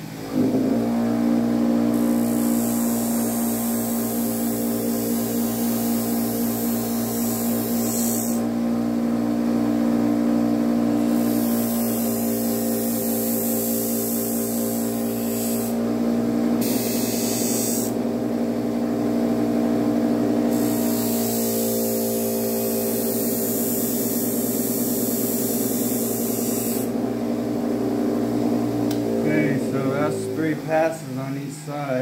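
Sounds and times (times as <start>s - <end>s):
electric motor humming: 0.3s - 31.3s.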